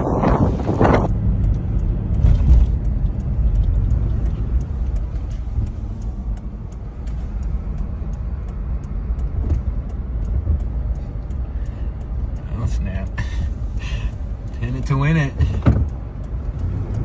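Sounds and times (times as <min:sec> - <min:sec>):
road vehicle engine rumble: 0:00.0 - 0:17.0
faint even ticking: 0:00.2 - 0:17.0.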